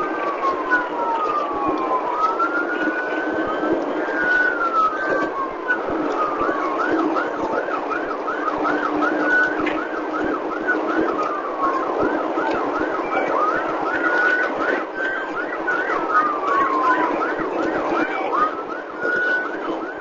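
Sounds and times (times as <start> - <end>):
police siren yelp: 0.0 - 20.0
vehicle rumble: 0.0 - 20.0.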